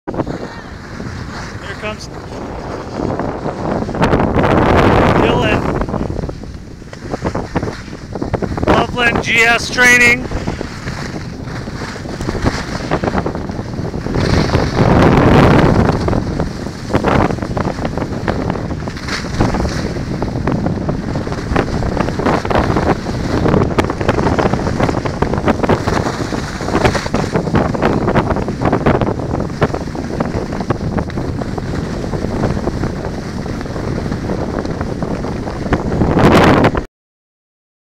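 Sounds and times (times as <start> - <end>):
wind rushing over microphone: 0.0 - 36.9
skis scraping on packed snow: 0.2 - 36.2.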